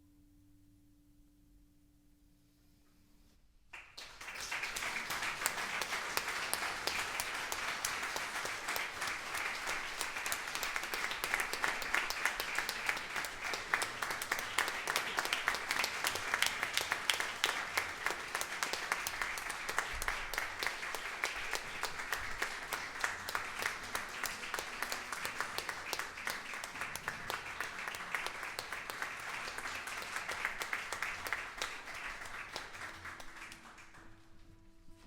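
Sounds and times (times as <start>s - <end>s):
audience applause: 3.8s - 34.4s.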